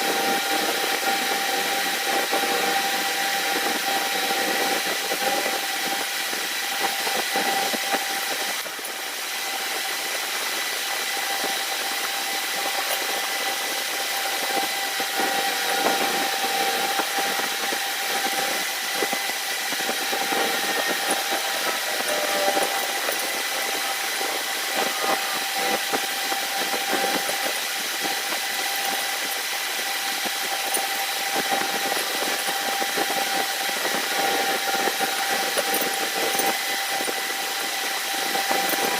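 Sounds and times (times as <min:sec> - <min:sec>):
machine whining: 0:00.0 - 0:38.9.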